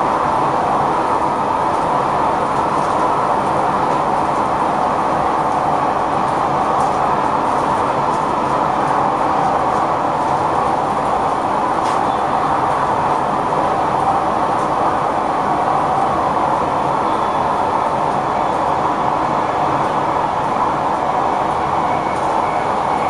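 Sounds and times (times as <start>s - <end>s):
train cab running noise: 0.0s - 23.0s.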